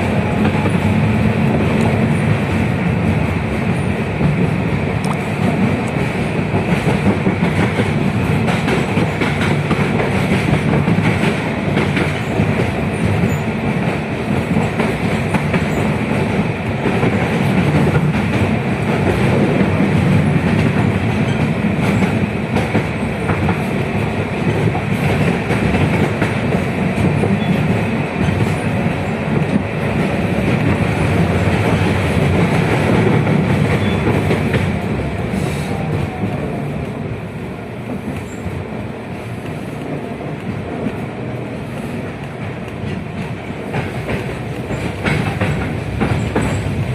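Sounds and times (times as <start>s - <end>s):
steel wheels rolling on rails: 0.0s - 46.9s.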